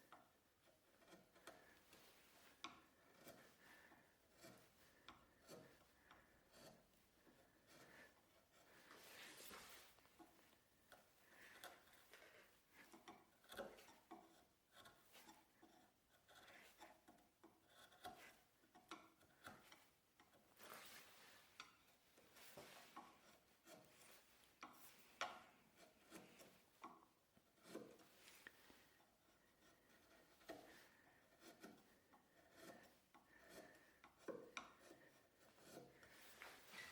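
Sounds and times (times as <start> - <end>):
hand tool scraping wood: 0.0 - 36.9.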